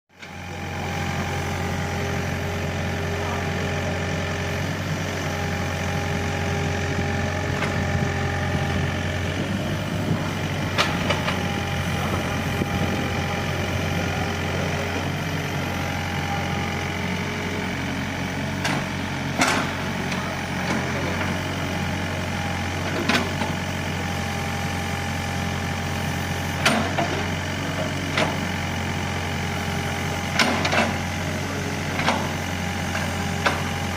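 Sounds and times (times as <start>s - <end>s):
excavator diesel engine running: 0.2s - 33.9s.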